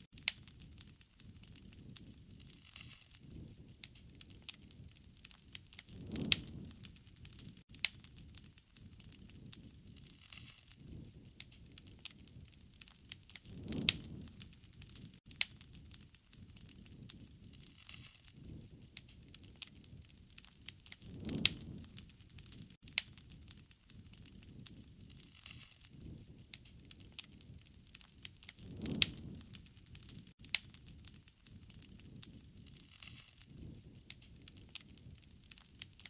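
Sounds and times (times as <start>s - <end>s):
wood fire crackling and popping: 0.0s - 36.0s
low rush of fire: 0.1s - 36.0s.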